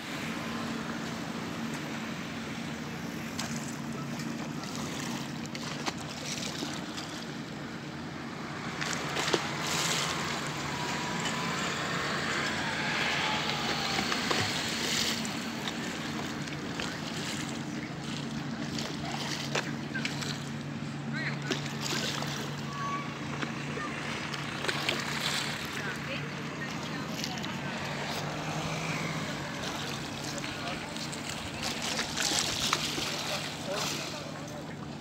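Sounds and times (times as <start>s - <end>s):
low motor hum: 0.0s - 35.0s
water lapping against stone wall: 0.0s - 35.0s.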